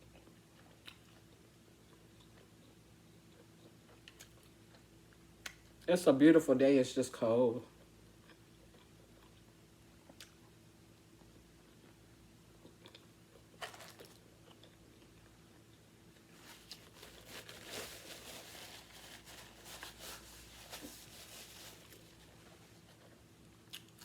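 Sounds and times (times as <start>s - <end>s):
crunchy chewing: 0.0s - 5.7s, 7.8s - 24.0s.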